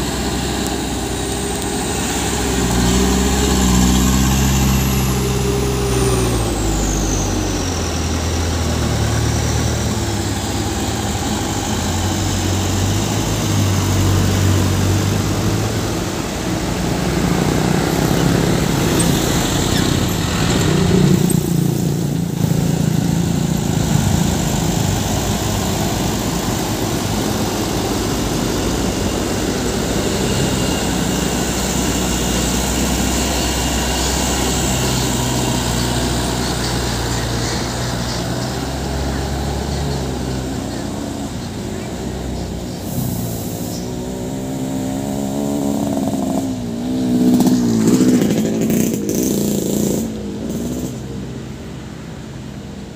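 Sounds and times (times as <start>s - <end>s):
falling high-pitched whine: 0.0s - 46.6s
dump truck diesel engines passing: 0.0s - 52.9s.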